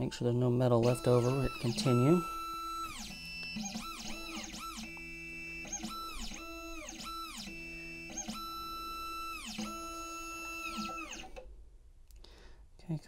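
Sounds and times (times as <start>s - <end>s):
machine motors whining: 0.0s - 11.4s.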